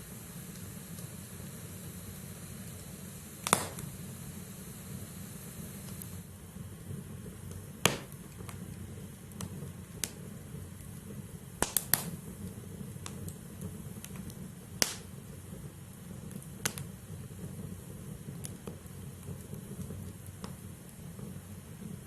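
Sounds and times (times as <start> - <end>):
firewood crackling and popping: 0.0 - 22.0
flame rumble: 0.0 - 22.0.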